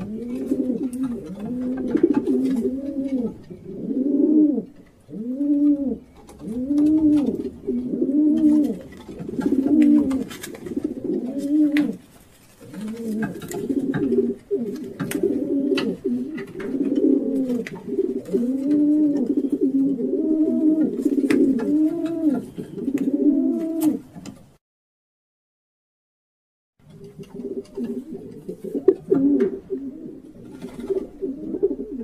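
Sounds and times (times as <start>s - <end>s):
pigeons cooing: 0.0s - 24.4s, 26.9s - 32.0s.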